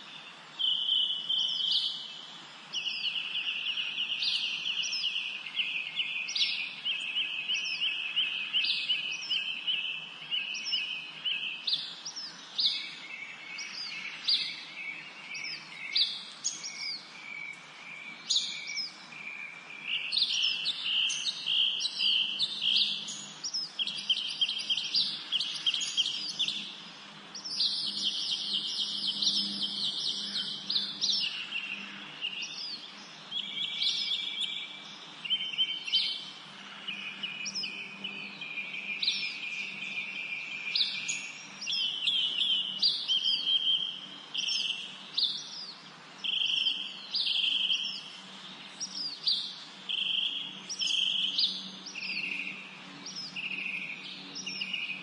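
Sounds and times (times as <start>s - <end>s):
songbirds trilling: 0.0s - 55.0s.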